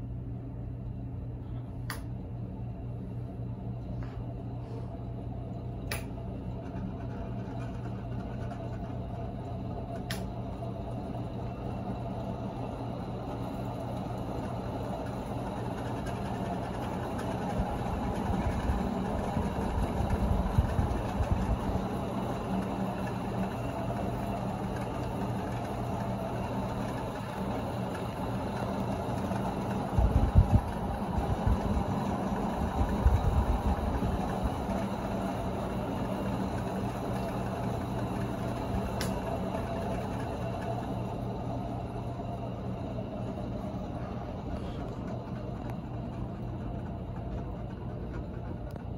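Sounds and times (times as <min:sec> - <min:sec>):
ceiling fan hum and whoosh: 0:00.0 - 0:48.9.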